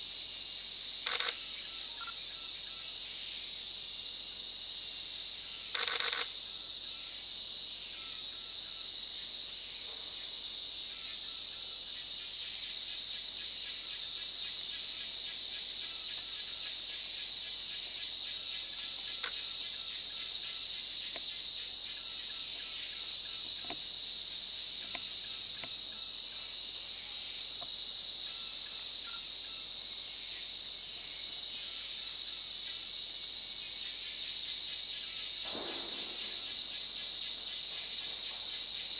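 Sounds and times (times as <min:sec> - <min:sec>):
chorus of forest insects: 0:00.0 - 0:38.9.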